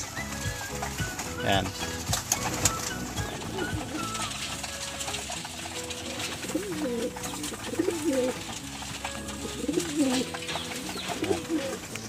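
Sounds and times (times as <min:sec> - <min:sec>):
pigeons cooing: 0:00.0 - 0:12.0
wings flapping: 0:00.0 - 0:12.0.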